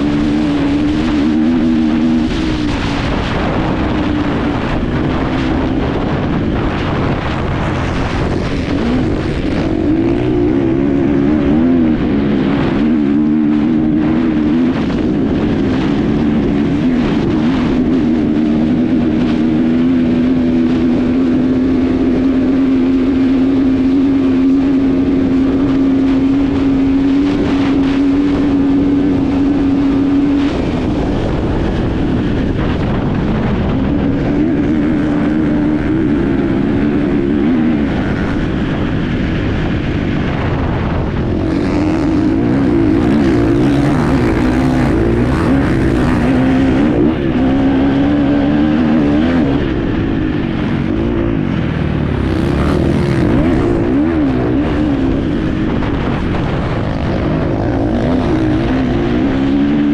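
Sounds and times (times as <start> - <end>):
motorcycle engine revving: 0.0 - 59.9
wind buffeting microphone: 0.0 - 59.9.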